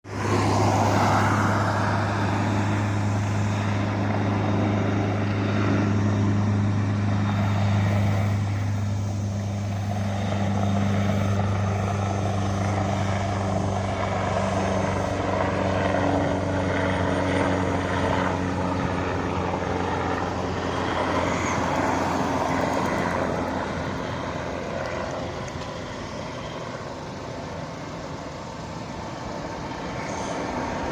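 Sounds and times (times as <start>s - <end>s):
helicopter flying: 0.0s - 30.9s.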